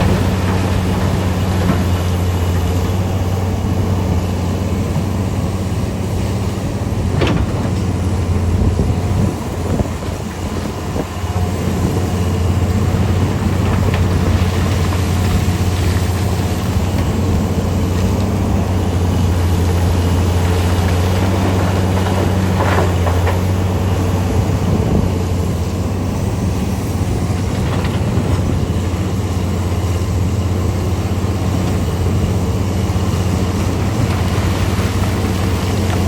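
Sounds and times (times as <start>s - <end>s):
diesel machinery engine drone: 0.0s - 36.0s.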